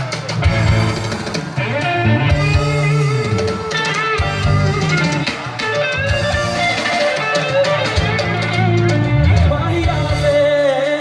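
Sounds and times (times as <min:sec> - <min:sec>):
loud music with guitar and drums: 0:00.0 - 0:11.0.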